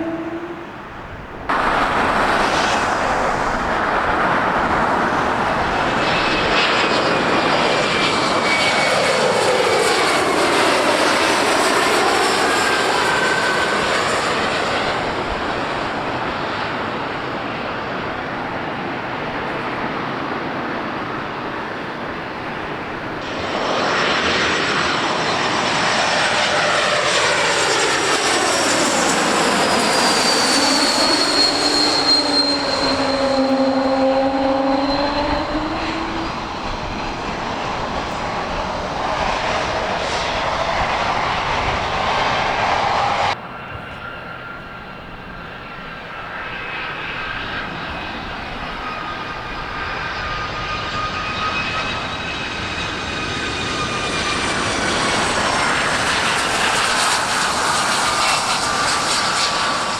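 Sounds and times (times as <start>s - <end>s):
jet airliner flying past: 0.0s - 59.9s.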